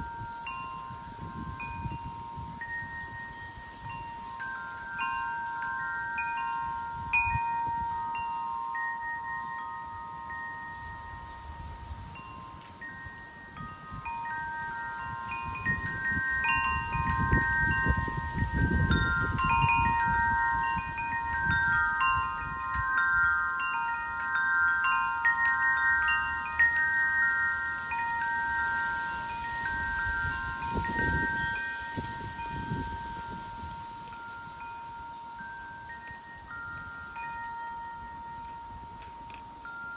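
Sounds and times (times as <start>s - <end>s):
wind chimes ringing: 0.0s - 39.9s
wind rumble on microphone: 0.0s - 39.9s.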